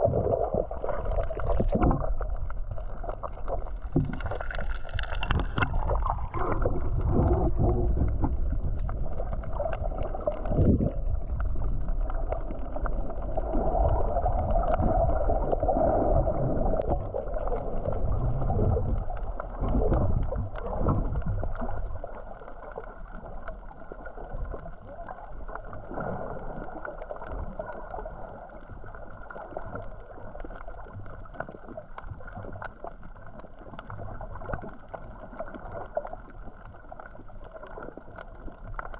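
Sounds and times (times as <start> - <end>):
muffled underwater churning: 0.0 - 38.9.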